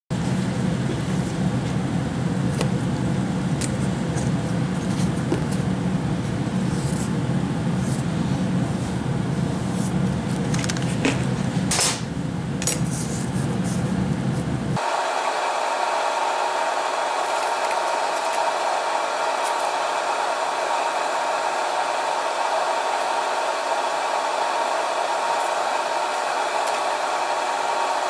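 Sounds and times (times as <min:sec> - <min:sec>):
steady mechanical hum: 0:00.1 - 0:28.0.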